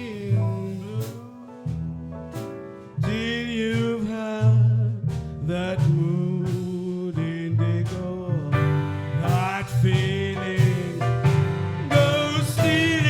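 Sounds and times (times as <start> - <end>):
jazz drums: 0.0 - 13.0
walking double bass: 0.0 - 13.0.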